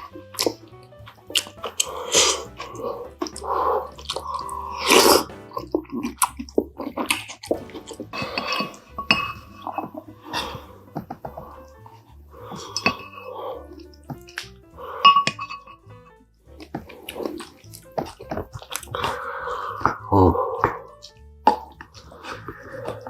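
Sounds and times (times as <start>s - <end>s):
person chewing: 0.0s - 14.5s, 16.5s - 23.0s
background music: 0.0s - 23.0s.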